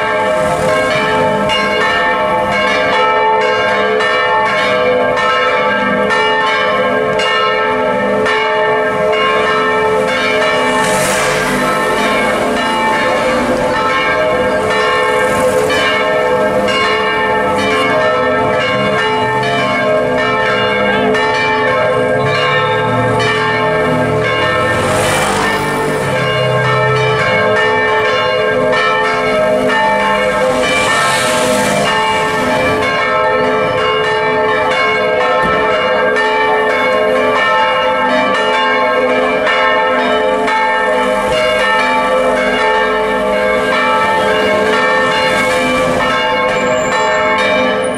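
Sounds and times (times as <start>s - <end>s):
church bells pealing: 0.0s - 47.9s.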